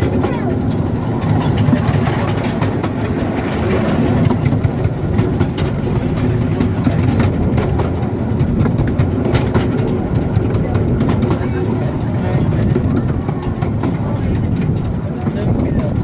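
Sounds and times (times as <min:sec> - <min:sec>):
train wheels rumbling on rail: 0:00.0 - 0:16.0
wheel clicks on track: 0:00.0 - 0:16.0.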